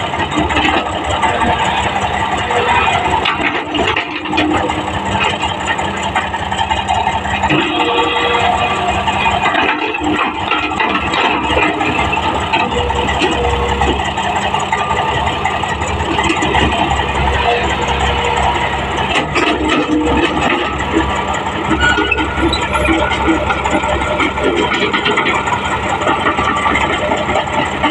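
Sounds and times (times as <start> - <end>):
heavy diesel engines running: 0.0 - 27.9.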